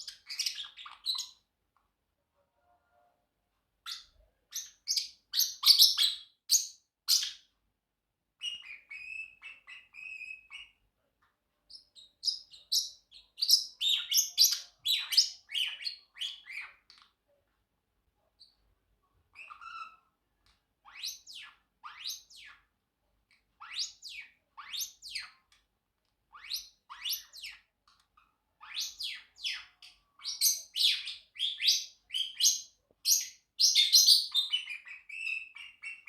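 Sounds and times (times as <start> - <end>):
parrot chirping: 0.0 - 1.5, 3.8 - 7.5, 8.4 - 10.8, 11.7 - 17.2, 18.4 - 22.7, 23.3 - 25.7, 26.3 - 36.0.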